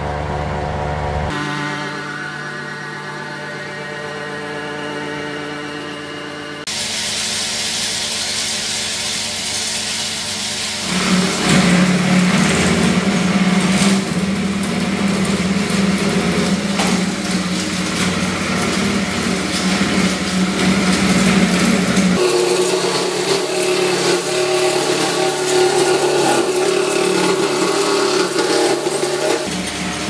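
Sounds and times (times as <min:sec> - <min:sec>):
wood chipper running: 0:00.0 - 0:30.0.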